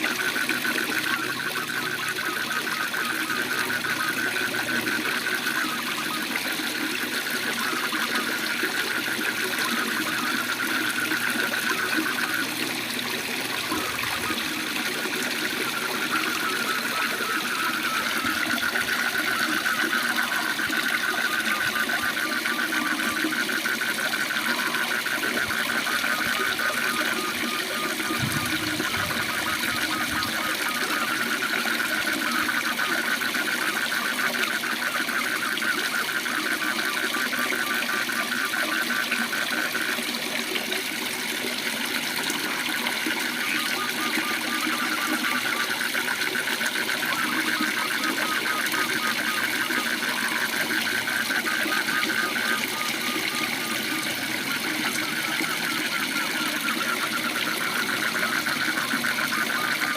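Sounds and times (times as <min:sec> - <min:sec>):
frogs calling in a trill: 0:00.0 - 0:59.9.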